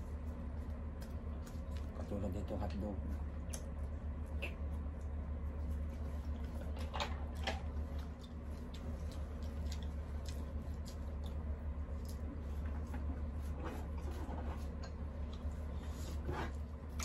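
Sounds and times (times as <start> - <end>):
steady low hum: 0.0 - 17.0
chewing: 0.3 - 2.2, 3.0 - 17.0.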